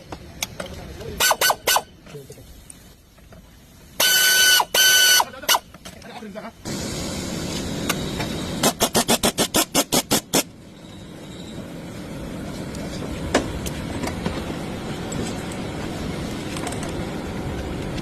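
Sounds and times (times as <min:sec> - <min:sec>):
low mechanical noise: 0:00.0 - 0:18.0.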